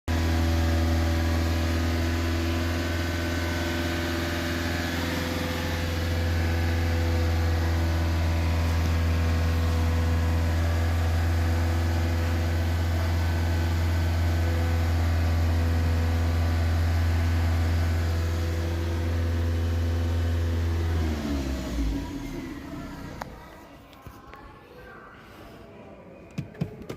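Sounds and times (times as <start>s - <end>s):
engine winding down: 0.1s - 23.4s
car engine running: 0.1s - 23.5s.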